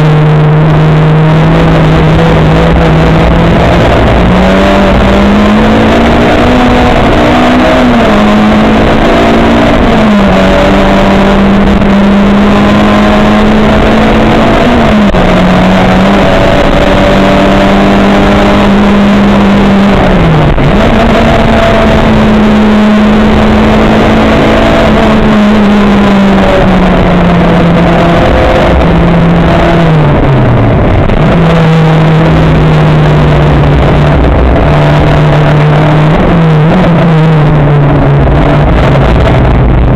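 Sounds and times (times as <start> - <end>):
racing car engine: 0.0 - 39.9
rushing wind and tyres: 0.0 - 39.9.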